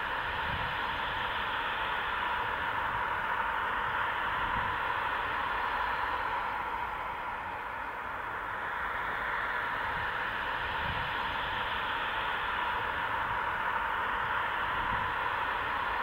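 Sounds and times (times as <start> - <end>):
jet engine whine: 0.0 - 16.0.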